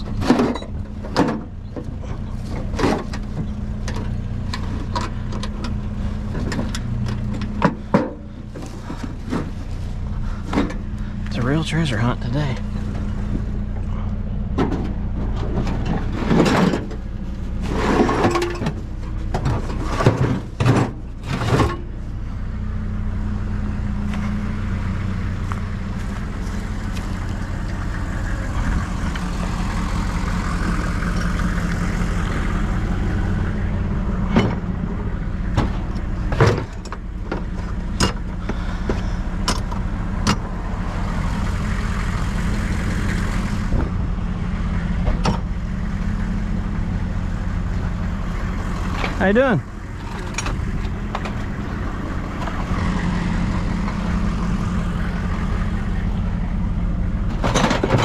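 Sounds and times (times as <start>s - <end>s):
road noise: 0.0s - 58.0s
truck engine hum: 0.0s - 58.0s.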